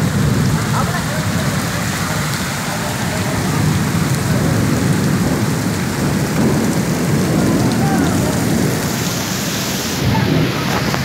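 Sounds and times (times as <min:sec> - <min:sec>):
heavy rain on wet pavement: 0:00.0 - 0:11.0.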